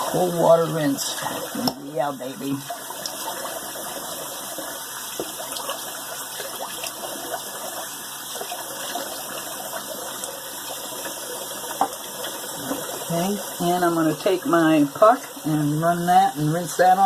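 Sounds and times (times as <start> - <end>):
tap water running into sink: 0.0 - 17.0
water splashing: 0.0 - 17.0.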